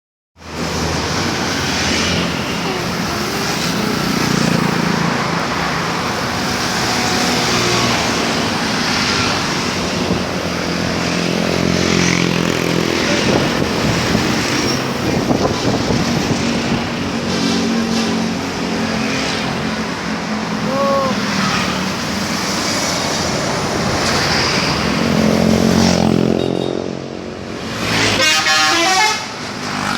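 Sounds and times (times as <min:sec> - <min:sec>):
road traffic noise: 0:00.4 - 0:29.9.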